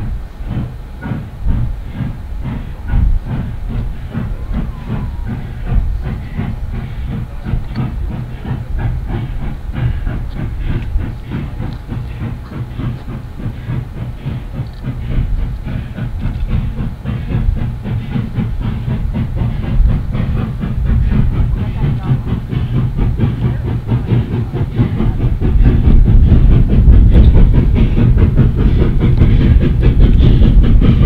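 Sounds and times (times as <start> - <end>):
steam locomotive chuffing: 0.0 - 31.0.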